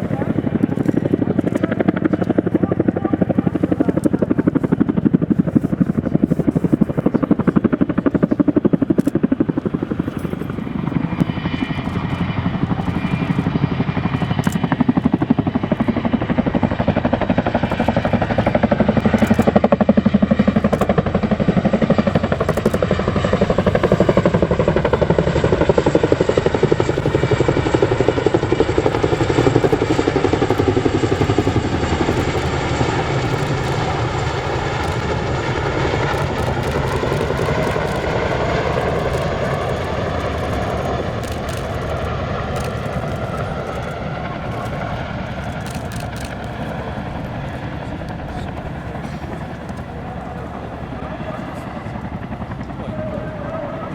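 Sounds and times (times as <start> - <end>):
helicopter rotors beating: 0.0 - 53.9
turbine engine whine: 0.0 - 53.9.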